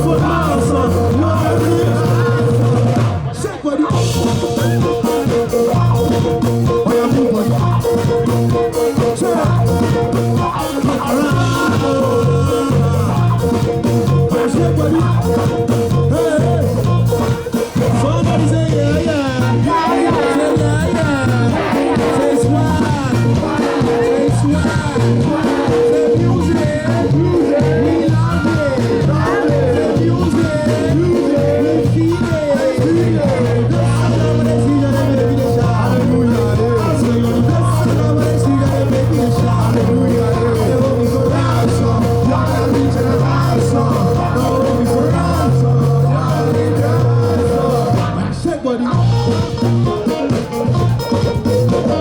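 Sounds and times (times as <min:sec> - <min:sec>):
live band playing upbeat music: 0:00.0 - 0:52.0.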